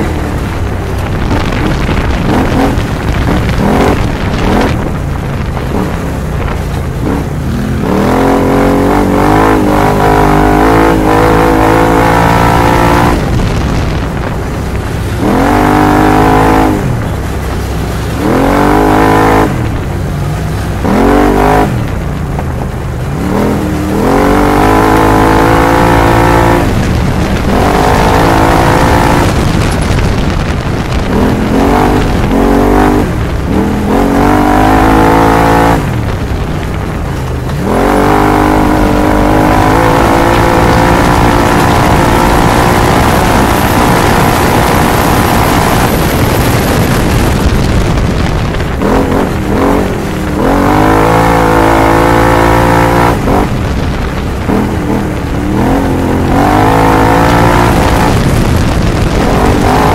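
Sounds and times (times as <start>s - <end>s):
engine revving hard: 1.3s - 5.0s, 5.6s - 14.2s, 15.1s - 17.0s, 18.2s - 19.8s, 20.8s - 21.9s, 23.2s - 36.9s, 37.6s - 53.8s, 54.4s - 59.9s.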